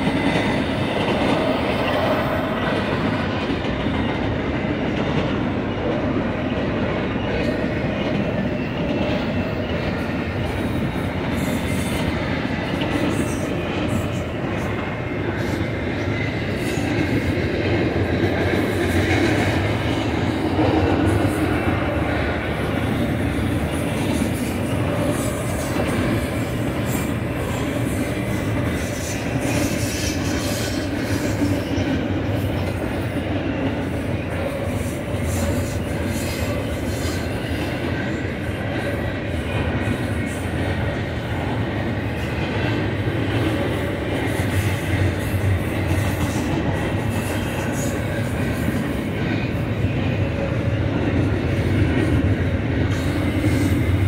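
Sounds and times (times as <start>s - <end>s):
steel train wheels rumbling on rails: 0.0s - 54.0s.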